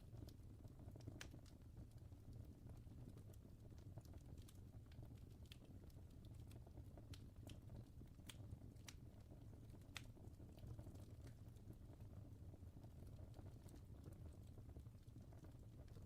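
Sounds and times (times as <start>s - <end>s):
faint crackling fire: 0.0s - 16.0s.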